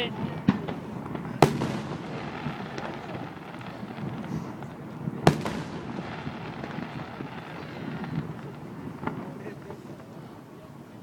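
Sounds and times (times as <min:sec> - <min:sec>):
firework crackling: 0:00.0 - 0:11.0
faint firework pops: 0:00.1 - 0:10.1.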